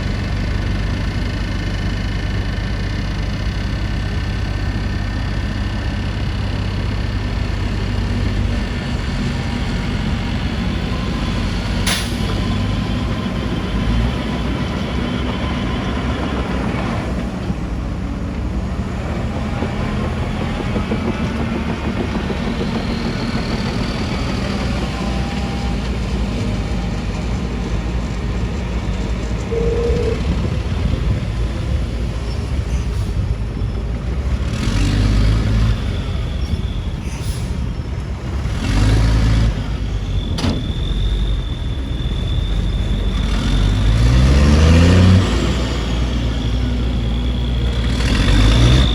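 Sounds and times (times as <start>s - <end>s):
diesel machinery rumbling: 0.0s - 48.9s.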